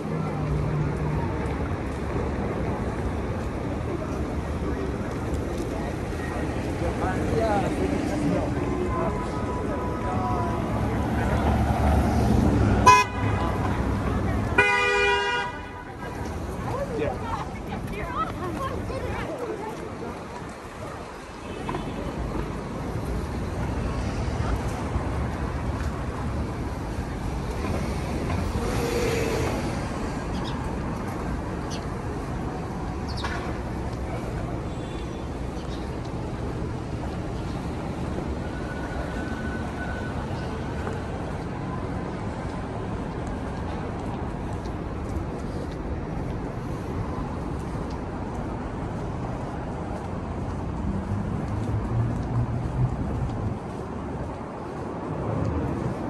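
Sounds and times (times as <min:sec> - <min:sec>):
city street traffic rumble: 0:00.0 - 0:56.0.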